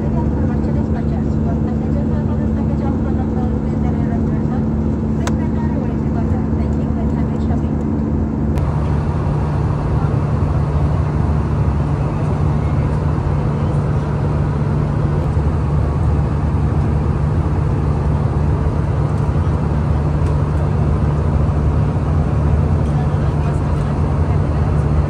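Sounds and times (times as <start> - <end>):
airplane cabin engine drone: 0.0 - 25.0.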